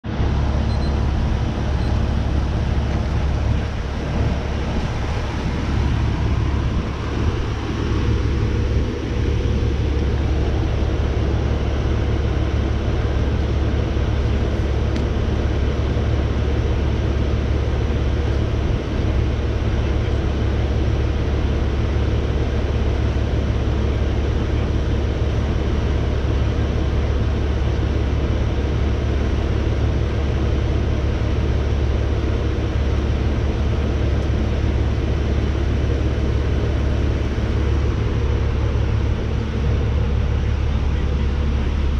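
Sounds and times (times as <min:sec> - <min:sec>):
fire engine idling: 0:00.0 - 0:41.9.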